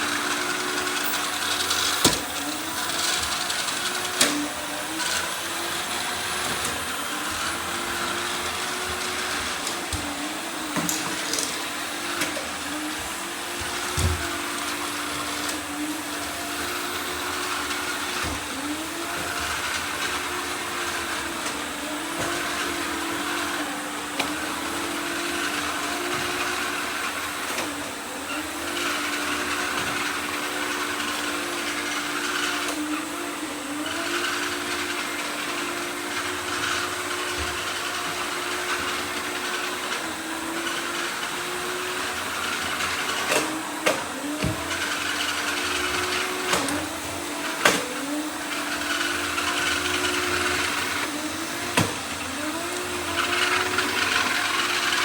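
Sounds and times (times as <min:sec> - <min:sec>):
robot vacuum motor whine: 0:00.0 - 0:55.0.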